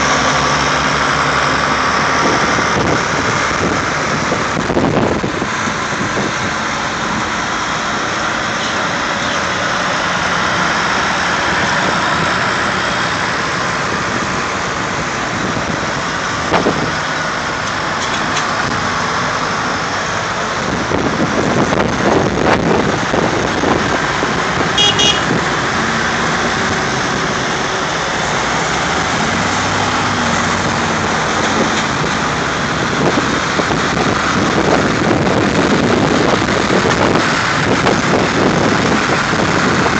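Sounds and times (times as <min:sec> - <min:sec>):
tractors driving past: 0:00.0 - 0:39.9.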